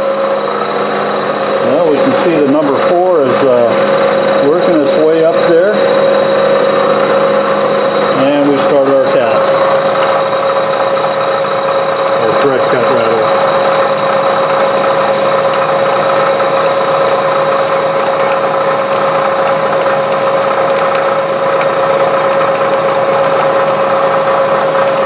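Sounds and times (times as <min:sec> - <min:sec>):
metal lathe turning: 0:00.0 - 0:25.0
milling machine running: 0:00.0 - 0:25.0.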